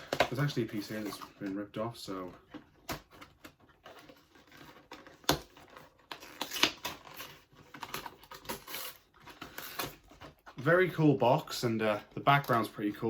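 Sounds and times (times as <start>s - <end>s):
packaging box being handled: 0.0s - 11.1s.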